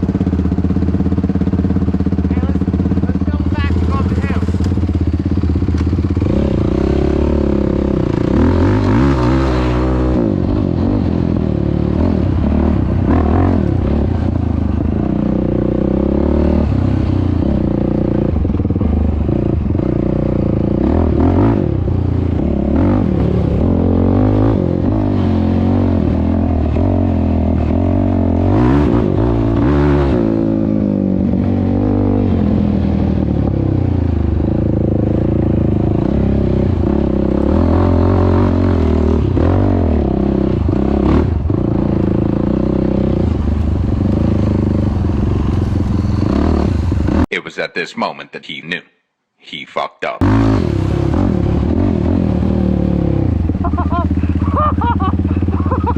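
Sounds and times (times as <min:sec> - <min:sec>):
engine revving while ridden: 0:00.0 - 0:47.3, 0:50.2 - 0:55.9.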